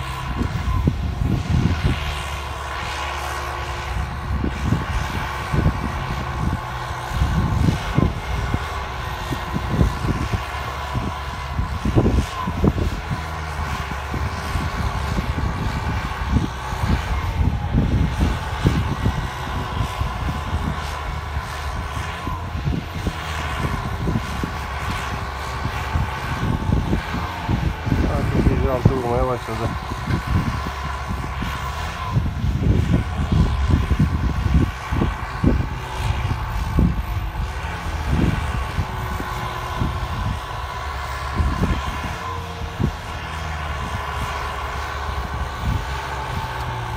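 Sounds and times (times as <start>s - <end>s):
tractor diesel engine running: 0.0s - 46.9s
turbo whine: 0.0s - 46.9s.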